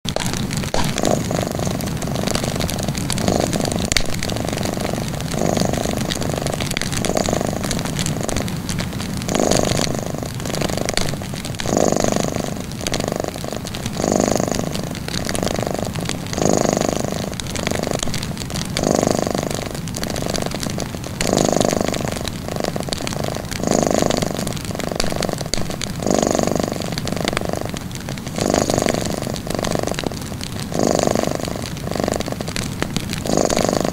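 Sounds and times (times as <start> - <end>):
cat purring: 0.0 - 33.9
wood fire crackling: 0.0 - 33.9.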